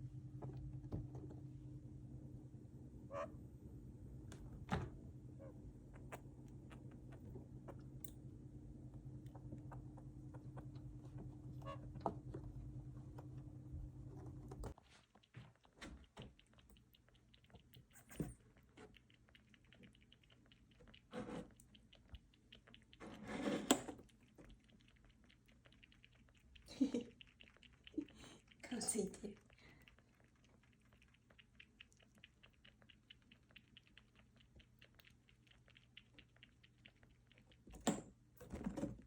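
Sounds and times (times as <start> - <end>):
low electrical hum: 0.0 - 39.0
small animals clicking and chewing: 5.3 - 39.0.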